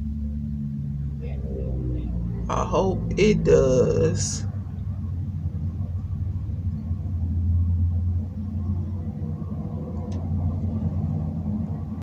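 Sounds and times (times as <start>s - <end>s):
low steady background rumble: 0.0s - 12.0s.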